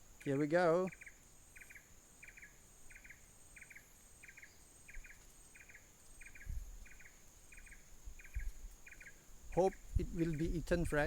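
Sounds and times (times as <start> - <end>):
high-pitched insect whine: 0.0 - 11.0
insect chirping: 0.0 - 11.0.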